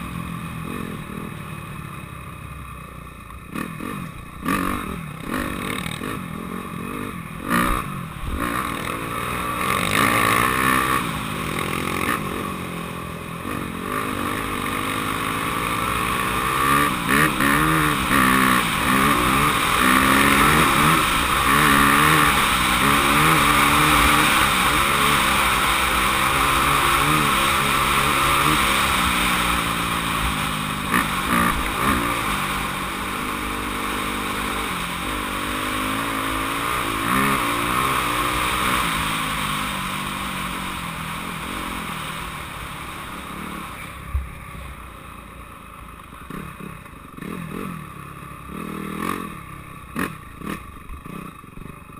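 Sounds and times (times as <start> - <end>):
dirt bike engine revving: 3.4 - 44.0, 46.3 - 51.9.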